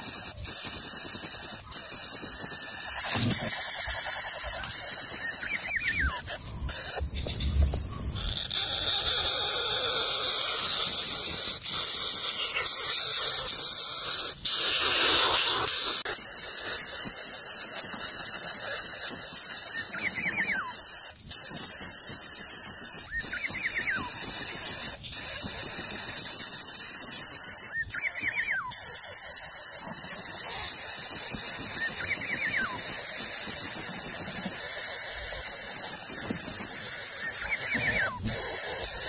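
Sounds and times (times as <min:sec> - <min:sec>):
nestlings begging with hissing squeal: 0:00.0 - 0:39.0.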